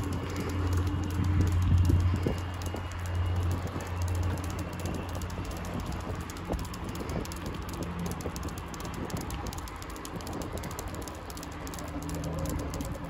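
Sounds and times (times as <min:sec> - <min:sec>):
footsteps on pavement: 0:00.0 - 0:13.0
wind rumbling on microphone: 0:00.0 - 0:13.0.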